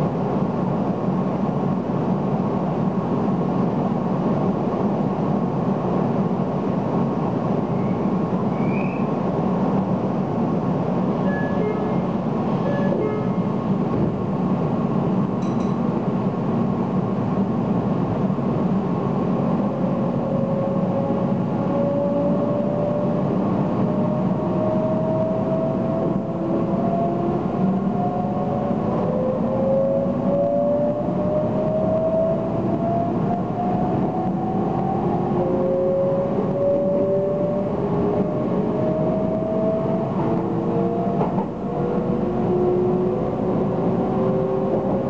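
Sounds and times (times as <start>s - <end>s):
train running hum: 0.0s - 45.0s.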